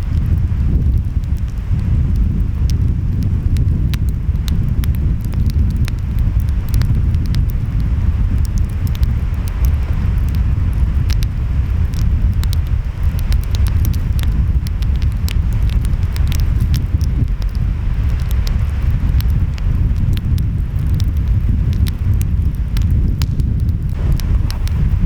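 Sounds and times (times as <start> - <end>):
wind: 0.0 - 25.0
wood fire crackling and popping: 0.0 - 25.0.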